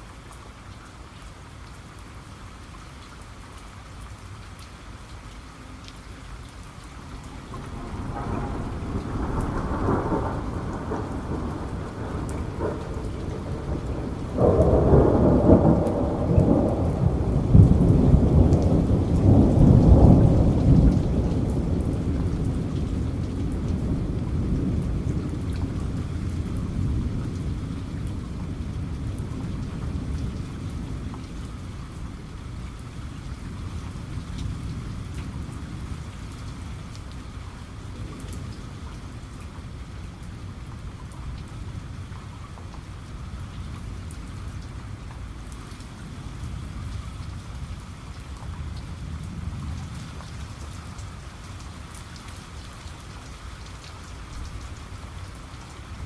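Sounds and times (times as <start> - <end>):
heavy rain: 0.0 - 56.0
low rumble of thunder: 6.7 - 56.0.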